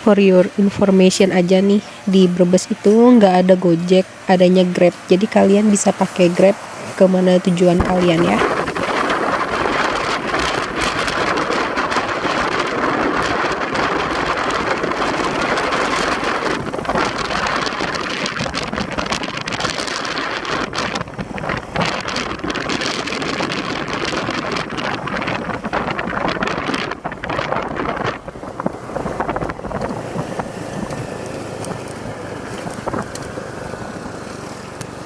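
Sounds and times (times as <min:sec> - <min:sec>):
moving vehicle: 0:00.0 - 0:35.0
wind buffeting microphone: 0:00.0 - 0:35.0.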